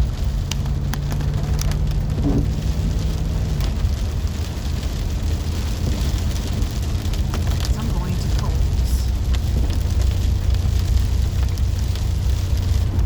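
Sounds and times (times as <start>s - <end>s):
raindrops tapping on vehicle: 0.0s - 13.0s
road and engine rumble: 0.0s - 13.0s.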